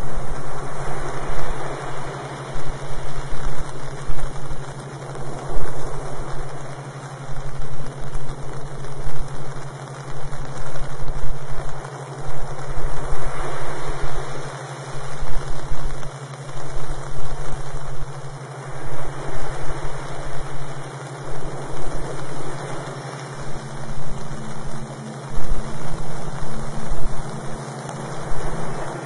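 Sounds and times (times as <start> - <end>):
low hum: 0.0 - 29.0
wash of noise: 0.0 - 29.0.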